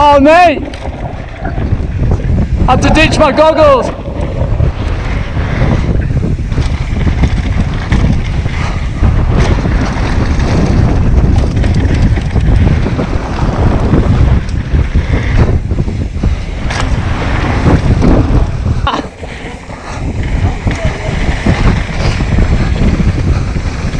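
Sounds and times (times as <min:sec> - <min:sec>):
bike knocking and rattling: 0:00.0 - 0:03.3, 0:03.9 - 0:23.9
wind buffeting microphone: 0:00.0 - 0:23.9.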